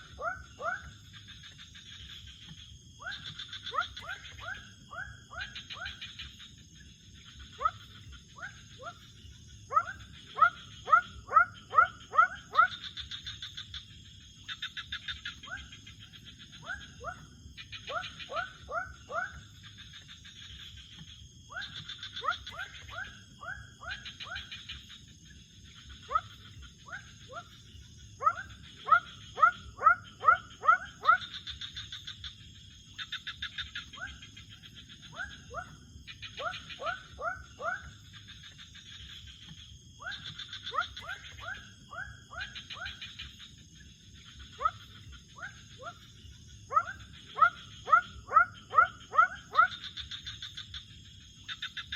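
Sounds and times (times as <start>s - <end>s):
frogs chirping: 0.0s - 51.9s
high insect whine: 0.0s - 51.9s.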